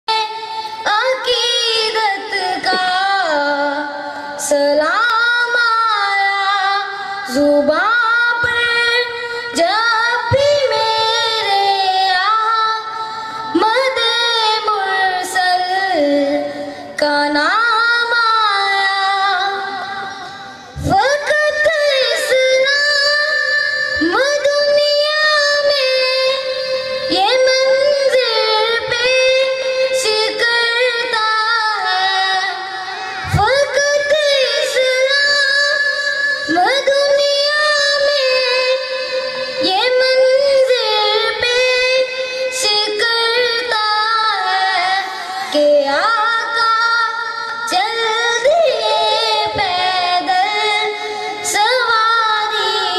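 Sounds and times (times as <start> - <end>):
boy singing into a microphone: 0.1 - 52.9.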